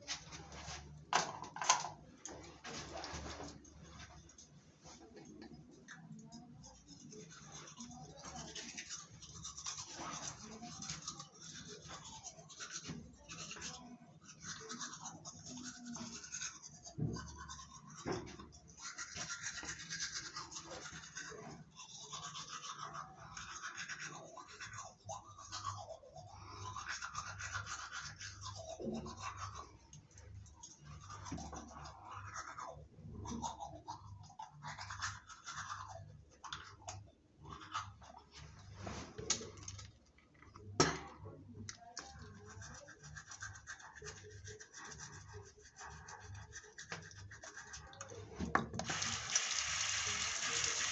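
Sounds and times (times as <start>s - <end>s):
toothbrush scrubbing teeth: 2.0s - 40.6s, 41.7s - 50.9s.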